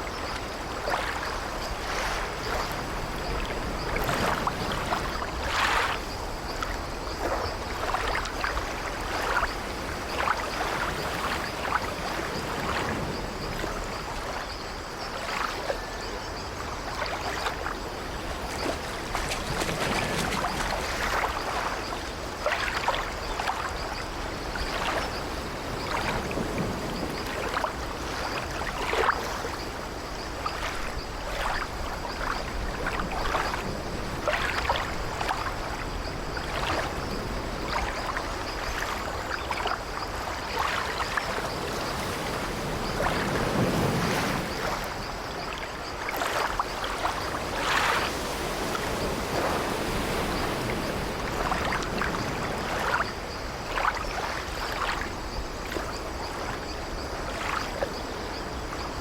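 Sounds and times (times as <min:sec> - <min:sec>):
sea waves against wooden ship: 0:00.0 - 0:59.0
water splashes: 0:00.0 - 0:59.0.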